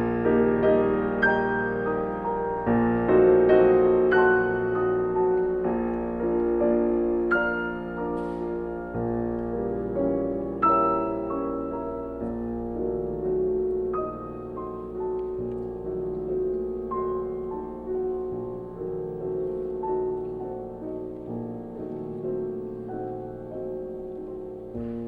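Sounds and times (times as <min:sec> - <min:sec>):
slow soft piano music: 0:00.0 - 0:25.0.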